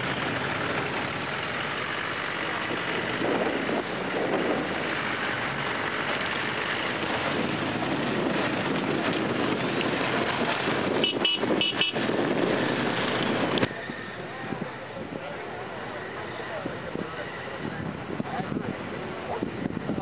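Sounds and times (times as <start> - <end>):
vehicle engines idling: 0.0 - 20.0.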